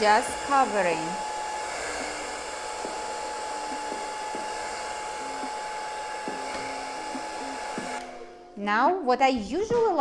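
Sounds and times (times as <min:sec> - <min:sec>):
hair dryer blowing: 0:00.0 - 0:08.3.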